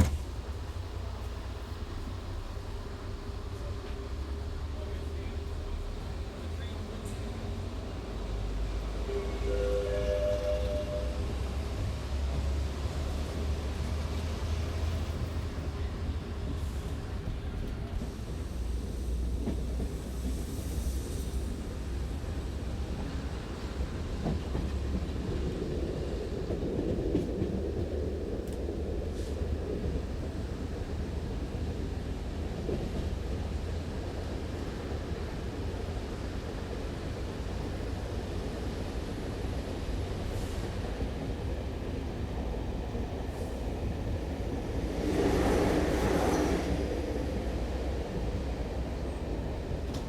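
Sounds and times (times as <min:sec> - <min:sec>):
diesel train engine drone: 0:00.0 - 0:50.0.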